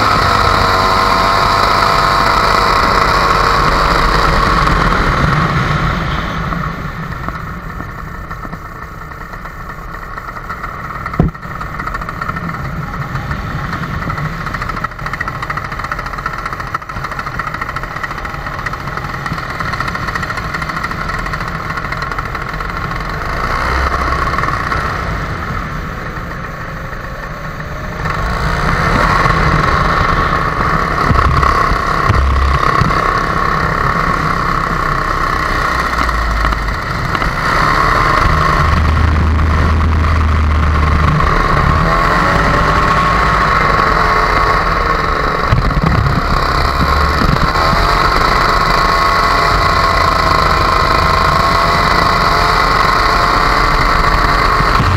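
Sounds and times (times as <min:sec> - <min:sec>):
paramotor engine running: 0:00.0 - 0:54.9.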